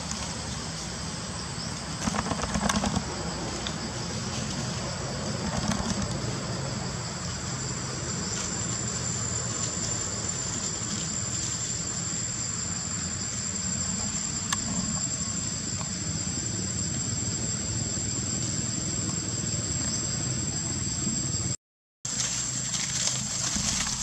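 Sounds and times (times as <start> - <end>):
insects droning: 0.0 - 24.0
low background rumble: 2.8 - 24.0.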